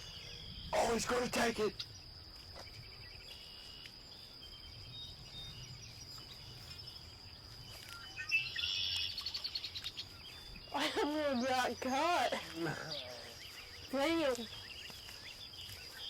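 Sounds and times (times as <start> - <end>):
birds chirping: 0.0 - 16.0
insects buzzing: 0.0 - 16.0.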